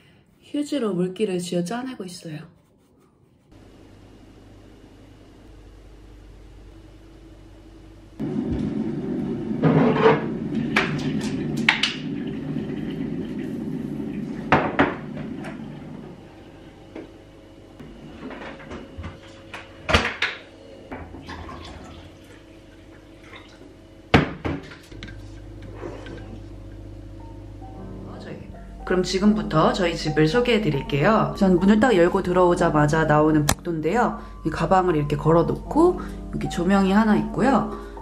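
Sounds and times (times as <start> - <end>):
steady low hum: 2.1 - 38.0.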